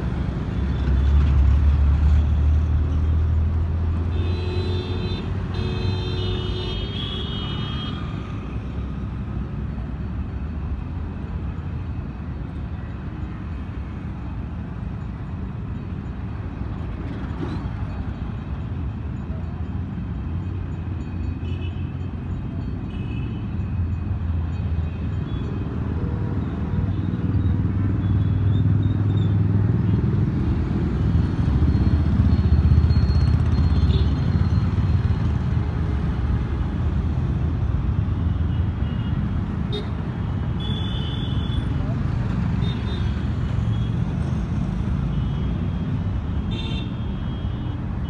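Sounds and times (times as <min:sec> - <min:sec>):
road traffic passing: 0:00.0 - 0:48.0.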